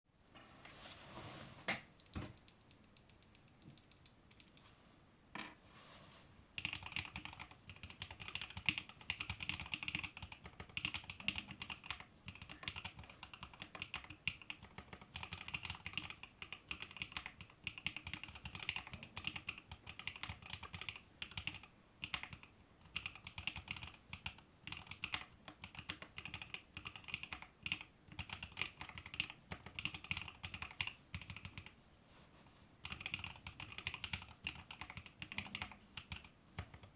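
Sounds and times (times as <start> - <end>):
mechanical keyboard typing: 1.8 - 4.6, 6.6 - 31.7, 32.8 - 36.9.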